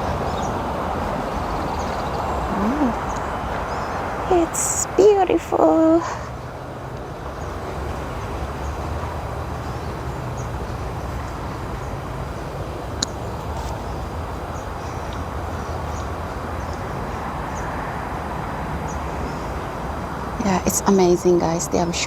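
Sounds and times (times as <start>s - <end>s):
distant road traffic rumble: 0.0s - 22.0s.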